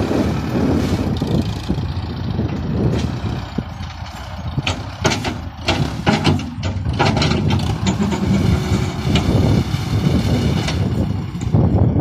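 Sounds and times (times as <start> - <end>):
diesel tractor engine running: 0.0 - 12.0
wind buffeting microphone: 0.0 - 12.0.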